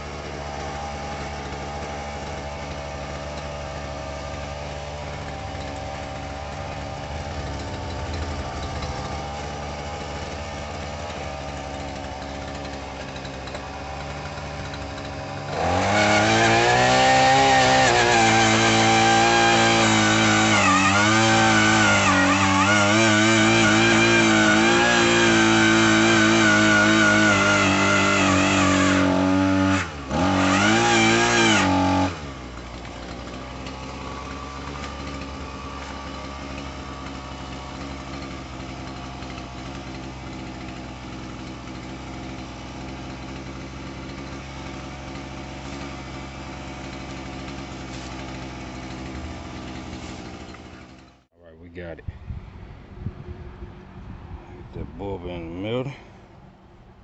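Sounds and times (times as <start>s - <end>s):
two-stroke auger engine running: 0.0s - 51.3s.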